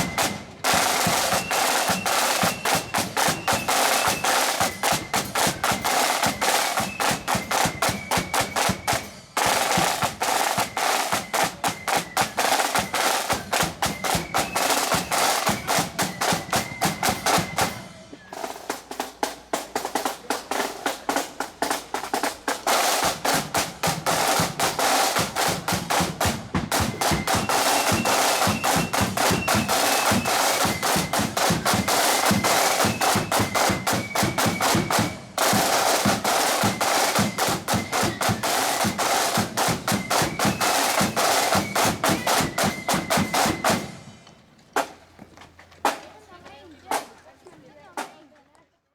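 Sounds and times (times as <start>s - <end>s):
snare drums rattling: 0.0s - 45.2s, 45.8s - 47.2s.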